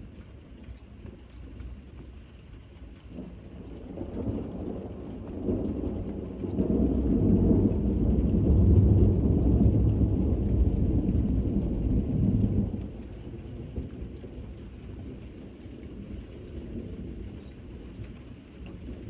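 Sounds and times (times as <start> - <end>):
steady rain: 0.0 - 19.0
thunder rumbling: 3.2 - 19.0.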